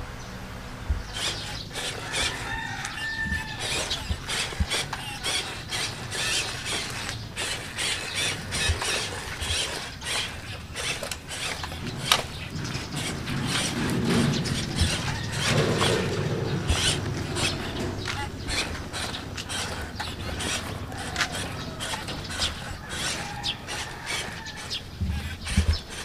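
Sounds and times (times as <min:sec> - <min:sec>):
small electric motor whirring: 0:01.0 - 0:26.0
tyres crackling over gravel and leaves: 0:01.2 - 0:26.0.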